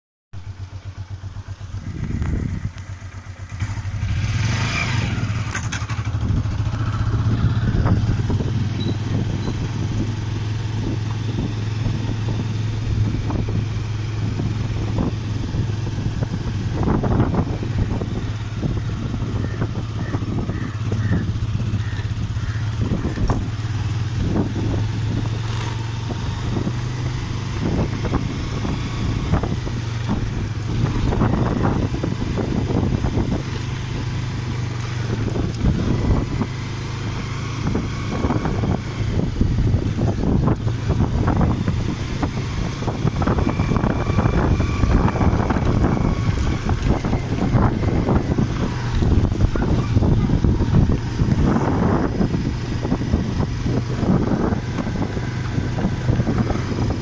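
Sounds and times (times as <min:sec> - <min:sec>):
motorcycle engine running: 0:00.4 - 0:57.0.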